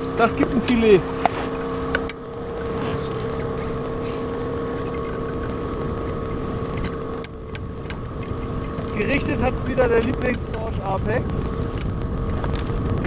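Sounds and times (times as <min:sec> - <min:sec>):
outboard motor humming: 0:00.0 - 0:13.0
wind: 0:00.0 - 0:13.0.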